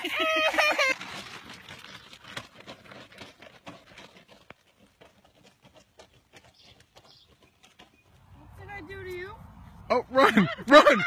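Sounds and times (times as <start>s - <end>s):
footsteps on dirt road: 0.0s - 9.9s.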